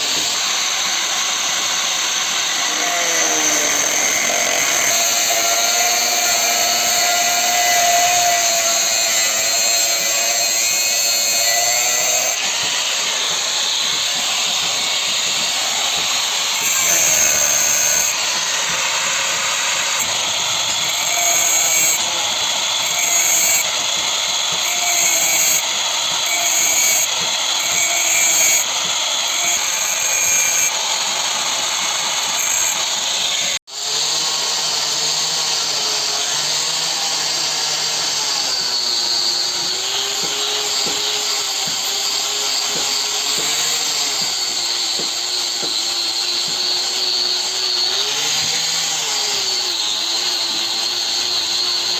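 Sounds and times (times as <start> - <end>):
power tool grinding steel: 0.0 - 51.9.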